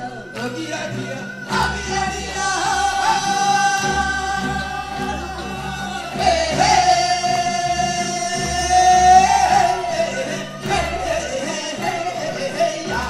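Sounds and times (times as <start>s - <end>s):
instrumental accompaniment: 0.0s - 13.0s
group singing: 0.3s - 13.0s.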